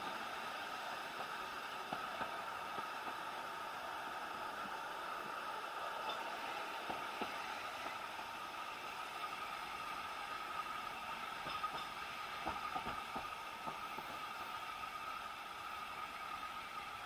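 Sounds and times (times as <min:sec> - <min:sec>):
steam train running: 0:00.0 - 0:17.0.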